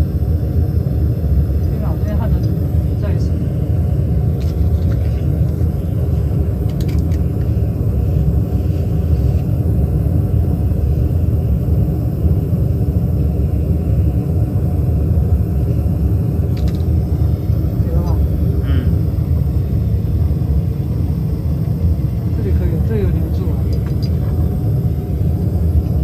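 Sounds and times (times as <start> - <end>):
torch flame rushing: 0.0 - 26.0.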